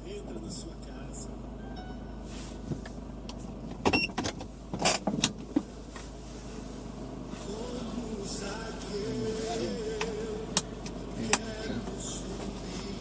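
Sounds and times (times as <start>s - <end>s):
car driving drone from inside: 0.0s - 13.0s.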